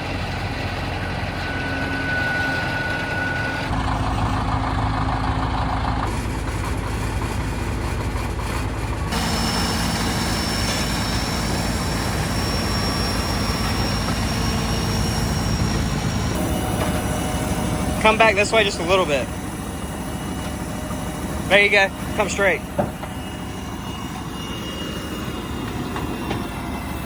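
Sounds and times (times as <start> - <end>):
heavy engine running: 0.0 - 27.0.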